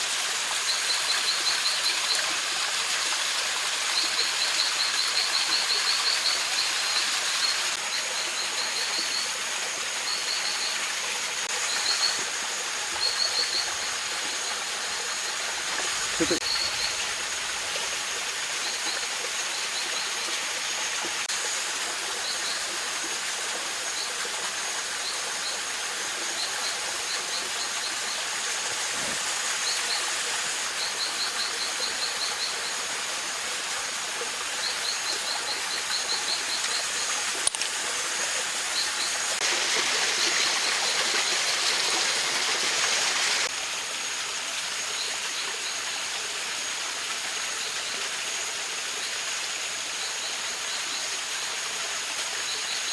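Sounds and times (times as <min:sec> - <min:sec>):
mountain stream flowing: 0:00.0 - 0:52.9.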